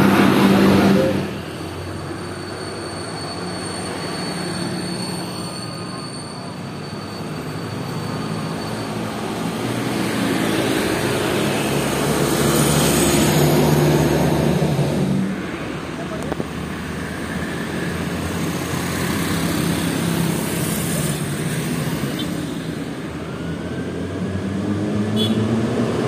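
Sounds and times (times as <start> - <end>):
bus passing by: 0.0 - 26.0.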